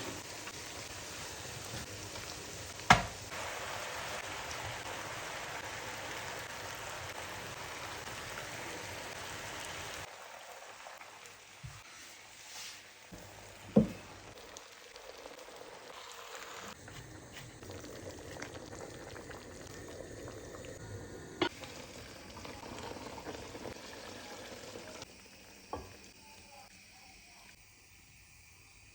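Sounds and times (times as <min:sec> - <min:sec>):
dough sizzling in hot oil: 0:00.0 - 0:26.6.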